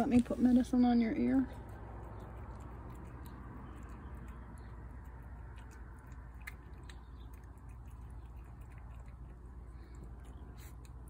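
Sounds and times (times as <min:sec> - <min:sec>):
cat chewing wet food: 0:01.5 - 0:11.0.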